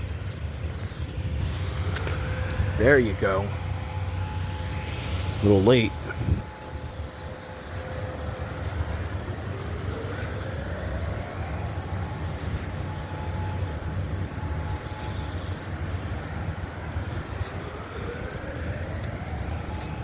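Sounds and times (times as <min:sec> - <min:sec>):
distant warning siren rising: 0:00.0 - 0:20.0
low background rumble: 0:00.0 - 0:20.0.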